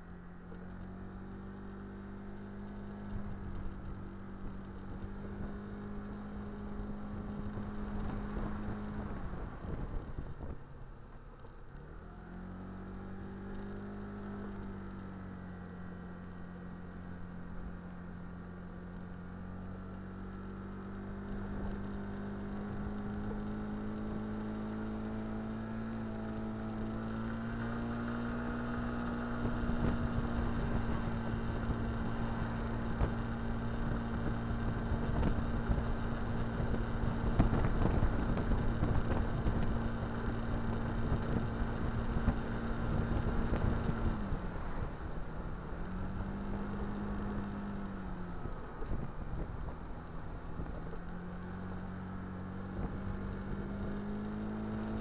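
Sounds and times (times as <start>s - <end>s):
scooter engine cruising: 0.0s - 55.0s
wind and road noise: 0.0s - 55.0s.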